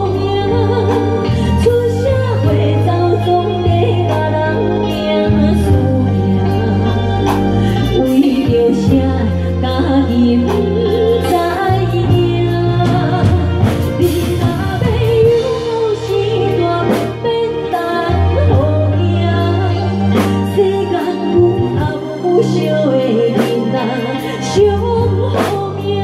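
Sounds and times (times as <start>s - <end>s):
bass notes: 0.0s - 26.0s
keyboard organ: 0.0s - 26.0s
woman singing into a microphone: 0.0s - 26.0s.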